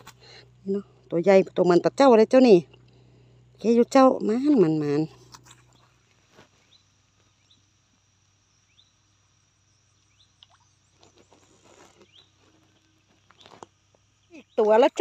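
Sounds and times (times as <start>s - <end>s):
thin steady high hum: 0.0s - 15.0s.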